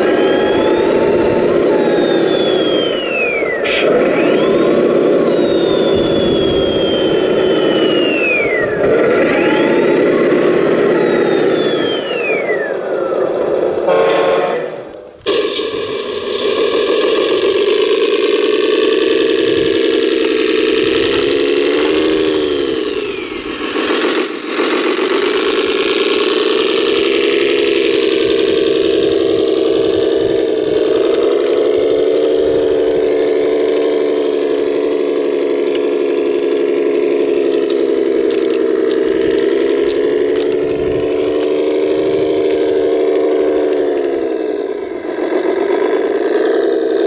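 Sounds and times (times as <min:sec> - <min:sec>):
toy vehicle motor drone: 0:00.0 - 0:47.0.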